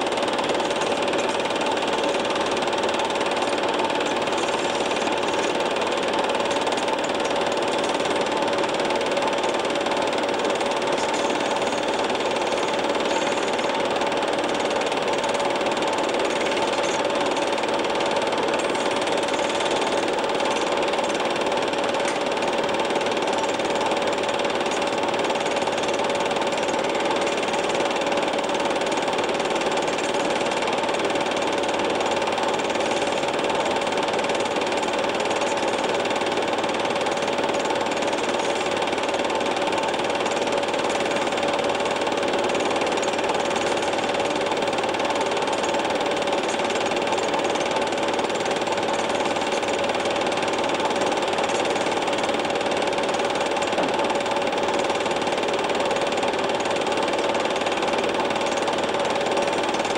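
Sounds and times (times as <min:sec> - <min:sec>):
film projector humming: 0:00.0 - 0:59.9.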